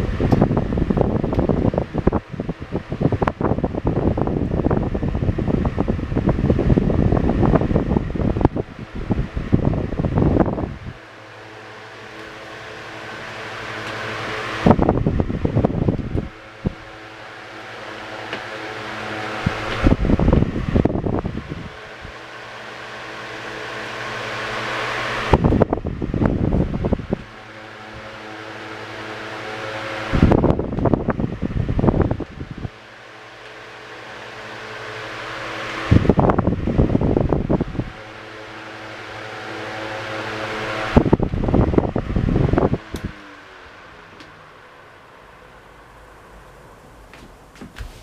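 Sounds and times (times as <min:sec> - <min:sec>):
electric fan motor hum: 0:00.0 - 0:48.0
fan airflow buffeting microphone: 0:00.0 - 0:48.0.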